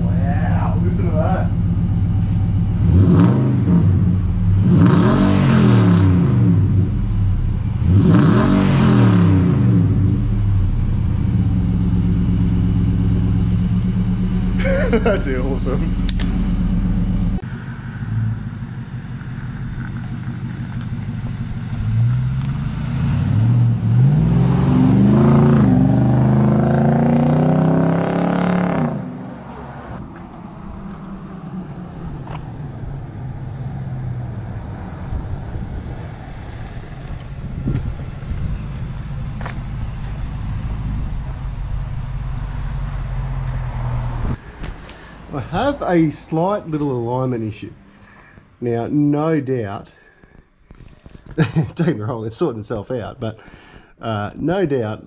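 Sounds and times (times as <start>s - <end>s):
car engine revving: 0.0s - 49.2s.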